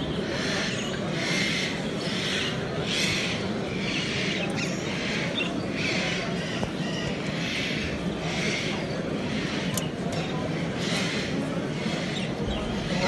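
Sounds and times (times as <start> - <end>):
caged birds chirping: 0.0 - 13.0
low background hubbub: 0.0 - 13.0.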